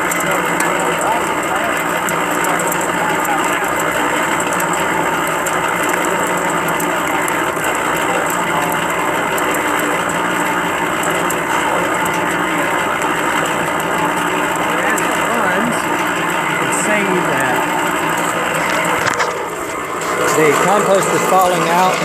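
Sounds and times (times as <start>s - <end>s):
cement mixer drum rattling: 0.0s - 22.0s.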